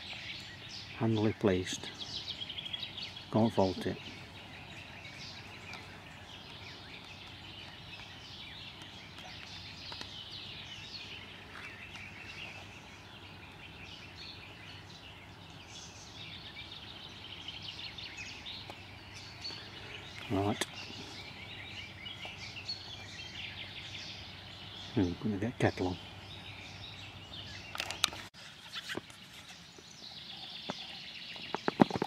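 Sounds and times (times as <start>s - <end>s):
small birds singing: 0.0s - 32.0s.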